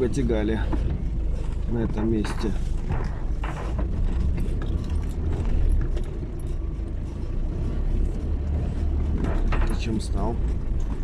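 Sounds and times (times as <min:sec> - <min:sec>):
car body rattling and knocking: 0:00.0 - 0:11.0
car engine and road rumble: 0:00.0 - 0:11.0.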